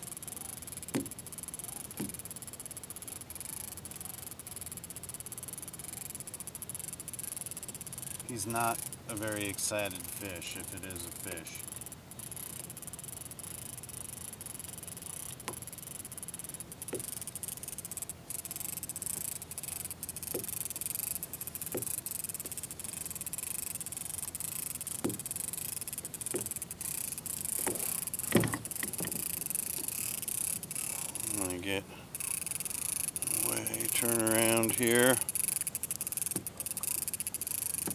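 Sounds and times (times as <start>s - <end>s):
fishing reel ticking hiss: 0.0s - 37.9s.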